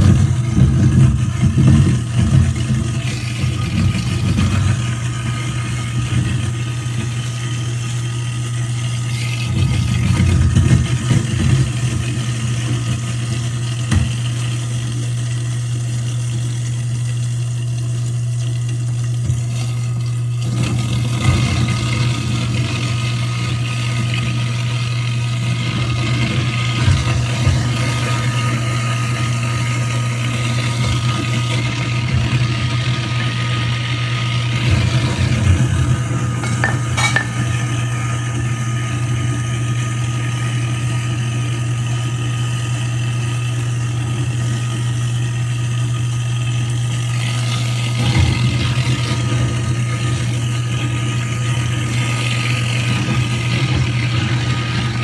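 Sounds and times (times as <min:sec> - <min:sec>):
garbage disposal grinding: 0:00.0 - 0:55.0.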